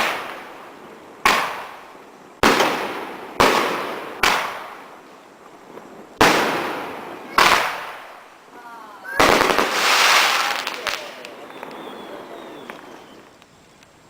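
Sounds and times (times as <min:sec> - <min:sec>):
firework bangs: 0:00.0 - 0:08.4, 0:09.1 - 0:13.4.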